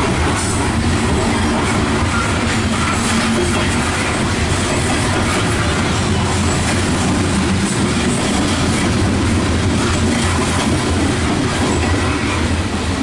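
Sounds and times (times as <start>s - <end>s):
freight train wheels rolling on rails: 0.0s - 13.0s.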